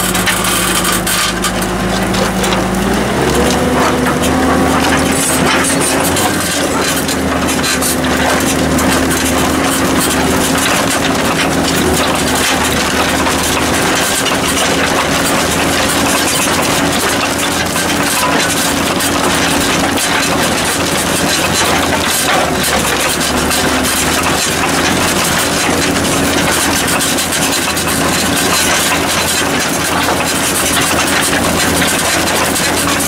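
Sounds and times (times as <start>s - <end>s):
plough scraping and rattling: 0.0s - 33.0s
tractor diesel engine under load: 0.0s - 33.0s.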